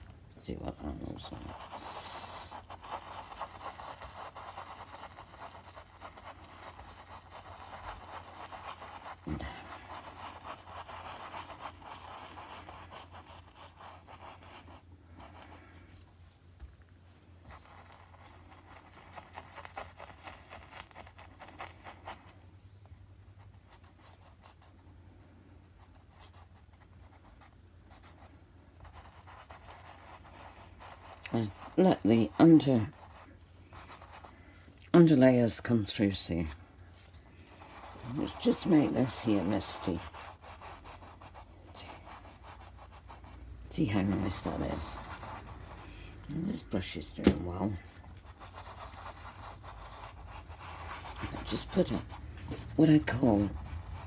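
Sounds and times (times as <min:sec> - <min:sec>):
paintbrush scrubbing on canvas: 0:00.0 - 0:16.4, 0:17.4 - 0:54.0.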